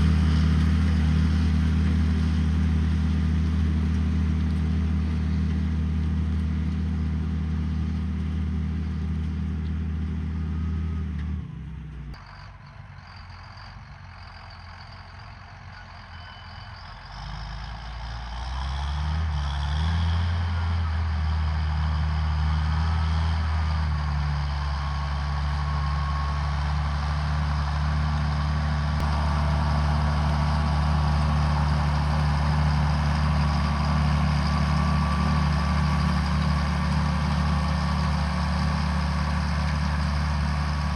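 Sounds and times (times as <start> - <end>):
diesel tractor engine under load: 0.0 - 40.9.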